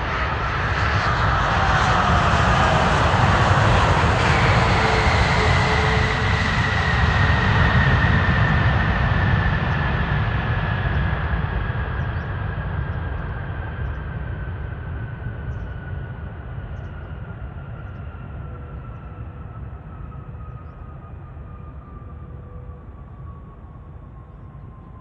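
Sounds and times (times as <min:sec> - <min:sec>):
jet airliner passing: 0:00.0 - 0:25.0.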